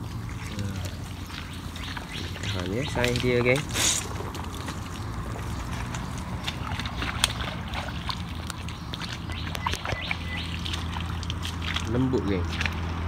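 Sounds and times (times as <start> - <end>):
boots squelching through mud: 0.0 - 13.0.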